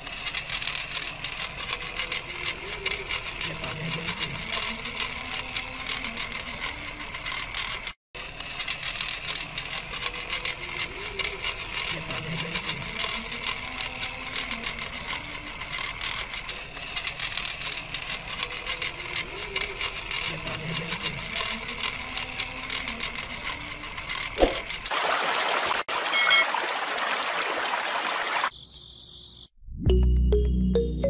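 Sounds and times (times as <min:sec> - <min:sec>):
fast clicking rattle: 0:00.0 - 0:24.9
small motor running: 0:00.0 - 0:28.5.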